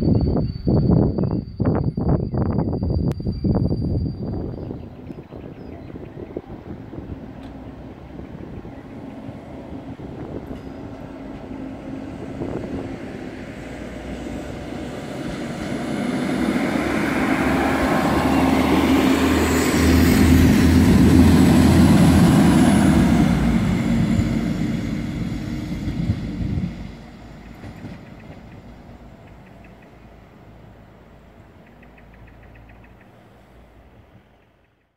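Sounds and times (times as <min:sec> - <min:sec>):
train wheel noise: 0:00.0 - 0:33.1
train engine hum: 0:00.0 - 0:34.8.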